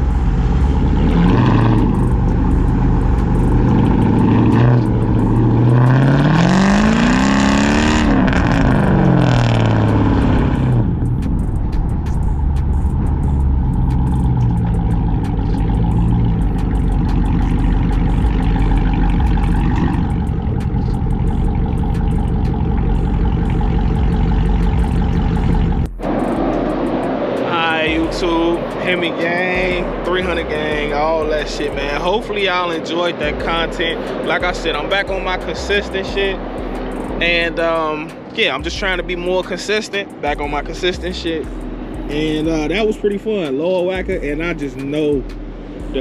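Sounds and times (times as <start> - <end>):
car exhaust revving: 0.0 - 46.0.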